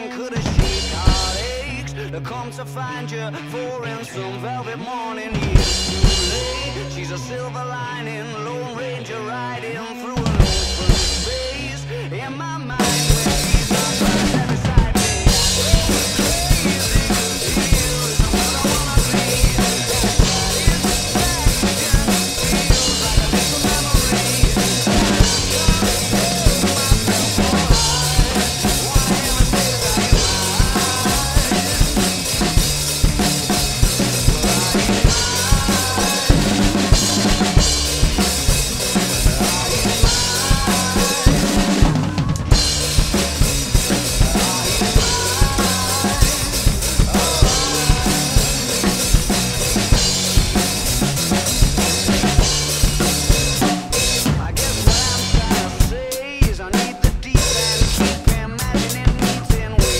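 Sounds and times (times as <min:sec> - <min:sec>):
drum kit rock beat: 0:00.0 - 0:02.0, 0:05.3 - 0:07.5, 0:10.1 - 0:12.1, 0:12.7 - 0:59.9
recorded rock band track: 0:00.0 - 0:59.9.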